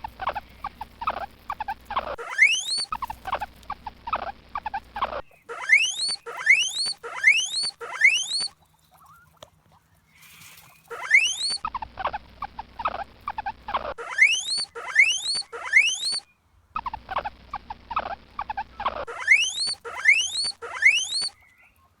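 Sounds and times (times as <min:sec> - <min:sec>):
guinea pig squealing: 0:00.0 - 0:09.4, 0:10.2 - 0:16.2, 0:16.8 - 0:21.5.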